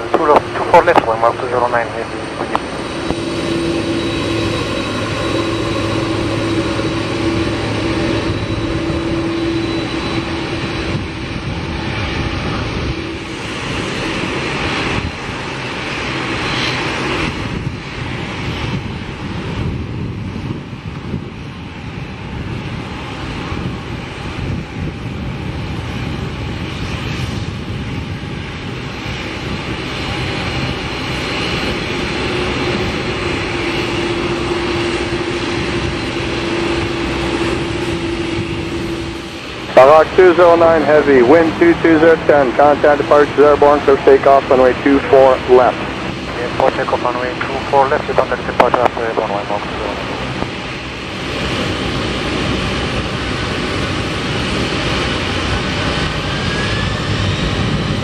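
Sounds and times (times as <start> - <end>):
jet engines whine and rumble: 0.0 - 58.0.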